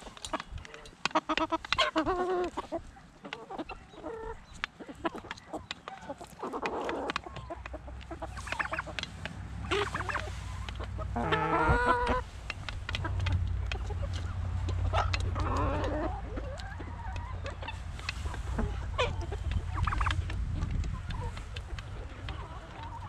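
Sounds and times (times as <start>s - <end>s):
beaks pecking at food bowl: 0.0s - 23.0s
chickens clucking: 0.0s - 23.0s
drawn-out hen call: 0.0s - 23.0s.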